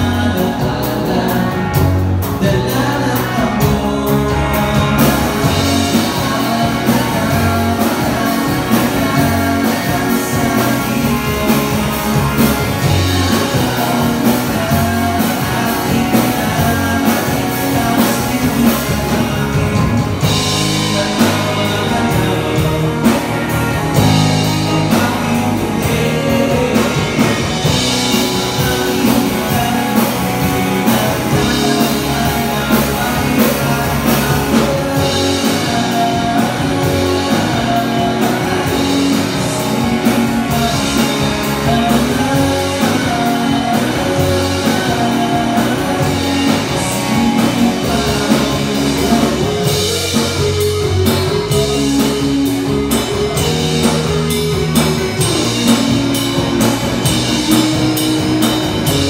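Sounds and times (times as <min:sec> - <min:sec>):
bass guitar: 0:00.0 - 0:59.0
drum kit: 0:00.0 - 0:59.0
electric guitar: 0:00.0 - 0:59.0
person singing lead vocal: 0:00.0 - 0:59.0.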